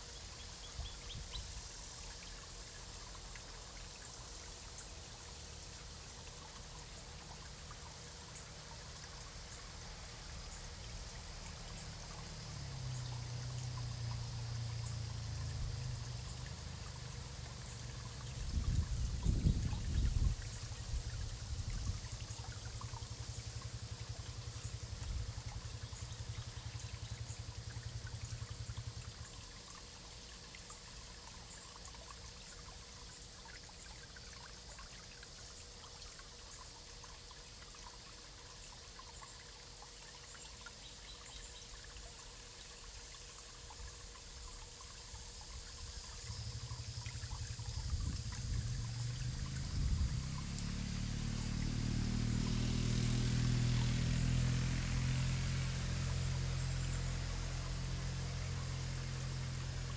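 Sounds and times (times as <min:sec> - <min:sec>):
water trickling and pouring: 0:00.0 - 0:59.9.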